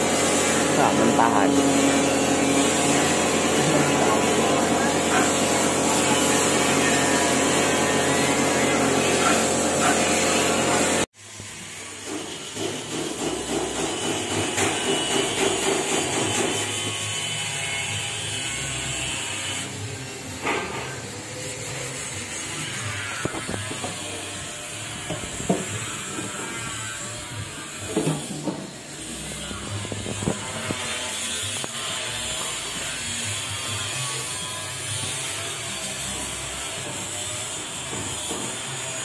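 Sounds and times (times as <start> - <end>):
air compressor drone: 0.0 - 39.0.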